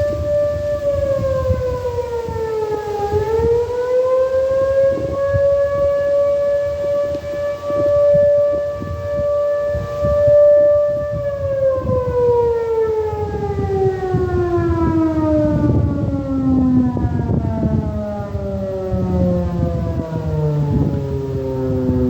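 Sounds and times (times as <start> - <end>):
warning siren winding down: 0.0 - 22.0.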